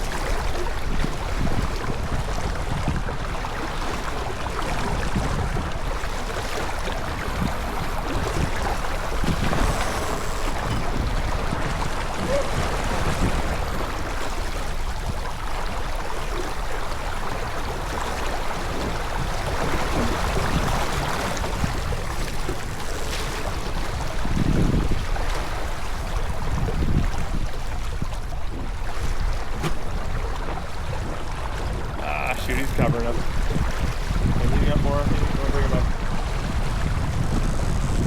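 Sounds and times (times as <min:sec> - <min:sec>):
water rushing along a hull: 0:00.0 - 0:38.0
wind buffeting the microphone: 0:00.0 - 0:38.0.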